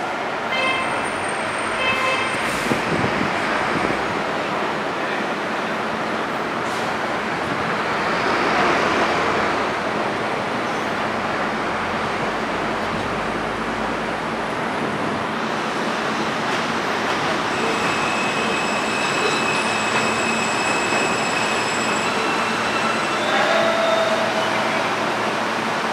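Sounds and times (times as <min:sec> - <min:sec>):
subway train noise: 0:00.0 - 0:25.9.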